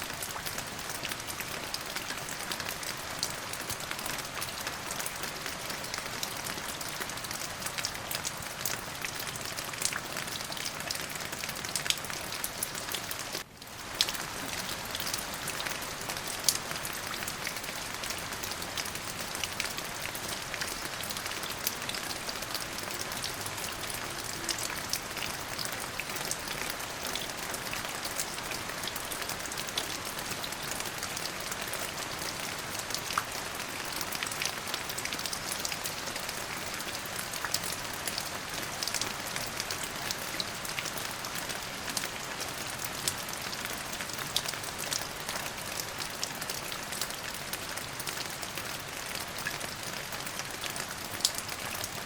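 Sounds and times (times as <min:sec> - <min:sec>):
rain falling on a surface: 0:00.0 - 0:52.0.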